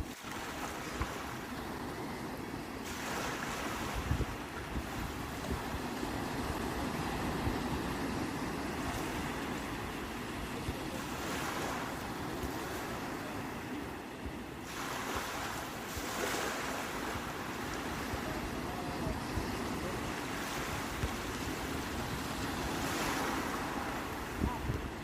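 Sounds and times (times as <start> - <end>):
sea waves surging: 0.0 - 25.0
wind rumbling on microphone: 0.0 - 25.0.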